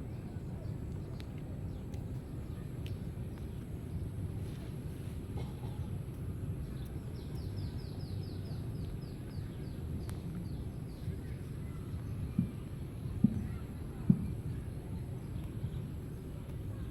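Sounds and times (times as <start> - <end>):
low outdoor rumble: 0.0 - 16.9.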